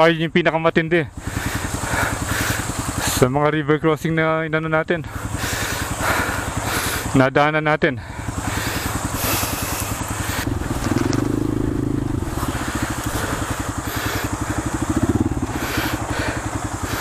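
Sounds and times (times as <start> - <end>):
motorcycle engine revving: 1.1 - 7.3, 8.0 - 17.0.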